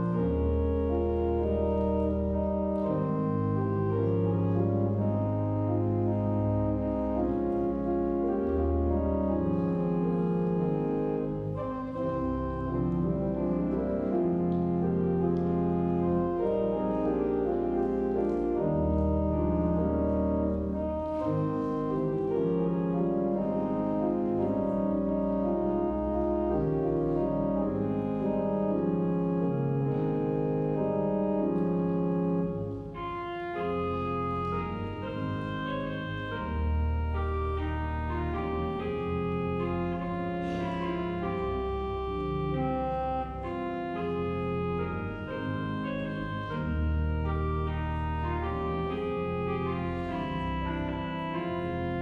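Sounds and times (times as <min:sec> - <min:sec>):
pipe organ playing chords: 0:00.0 - 0:52.0.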